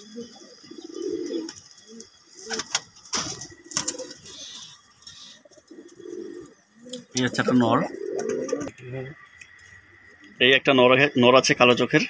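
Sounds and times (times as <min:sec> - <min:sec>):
pigeons cooing: 0:00.0 - 0:10.6.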